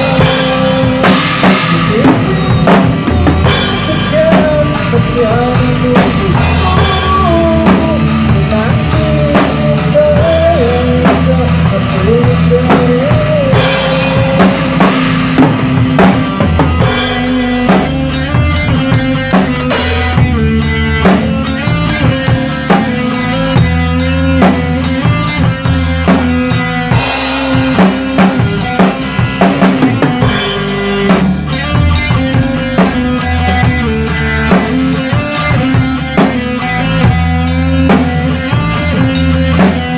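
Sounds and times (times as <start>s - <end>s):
acoustic drum kit groove: 0.0s - 39.9s
backing song with bass and melody: 0.0s - 39.9s.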